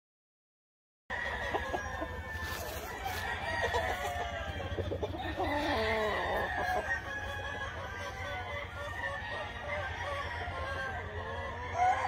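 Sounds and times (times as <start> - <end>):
chickens clucking: 1.1 - 12.0
roosters crowing: 1.1 - 12.0.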